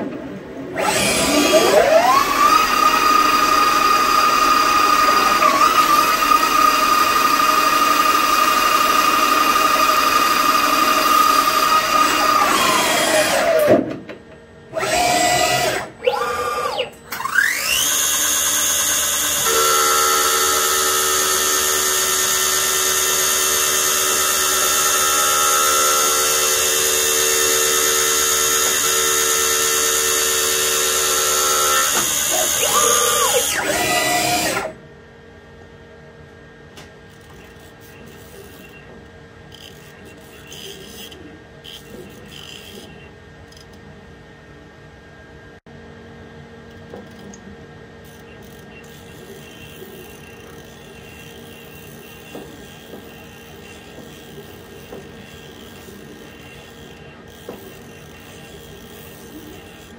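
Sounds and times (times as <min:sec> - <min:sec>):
milling spindle whine: 0:00.8 - 0:13.7, 0:14.7 - 0:34.8, 0:37.1 - 0:43.7, 0:47.0 - 0:59.9.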